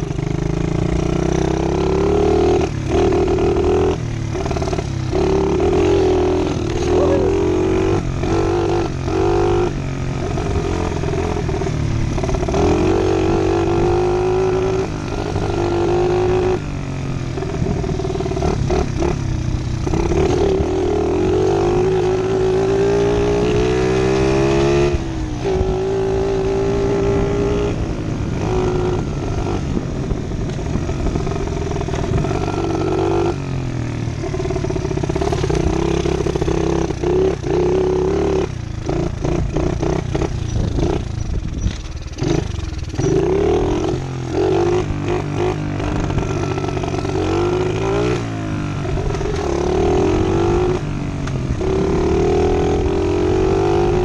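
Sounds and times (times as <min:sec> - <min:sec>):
pit bike engine revving: 0:00.0 - 0:54.0.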